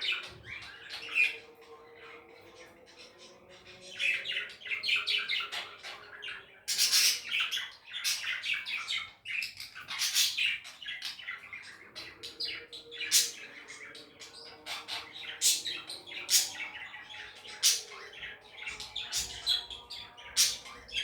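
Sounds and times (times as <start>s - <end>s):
budgerigars chattering: 3.9s - 21.0s.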